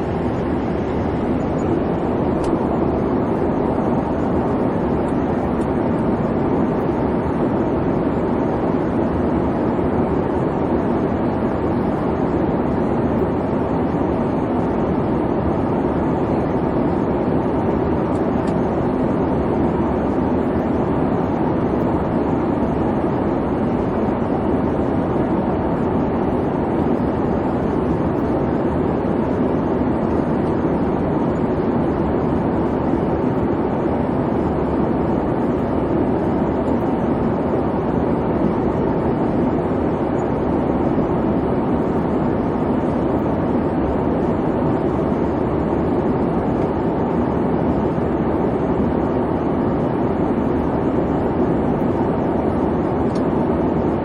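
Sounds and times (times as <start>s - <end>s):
airliner cabin noise: 0.0s - 54.0s.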